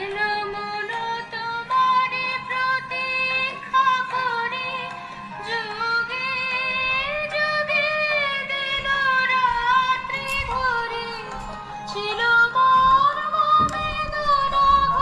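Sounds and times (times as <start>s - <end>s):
song with sung melody: 0.0s - 15.0s.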